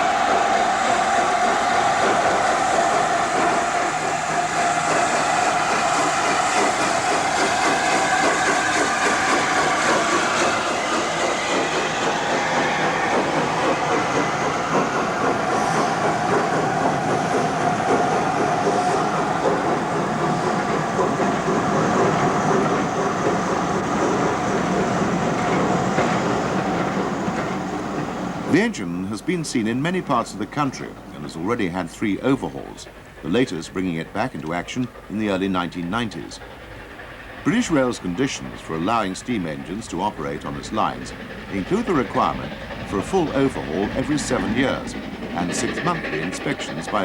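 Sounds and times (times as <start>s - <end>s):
steam train running on rails: 0.0s - 47.0s.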